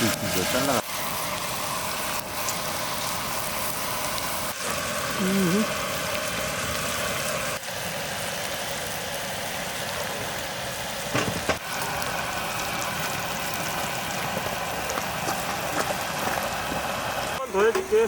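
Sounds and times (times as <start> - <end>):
food sizzling in oil: 0.0 - 18.0.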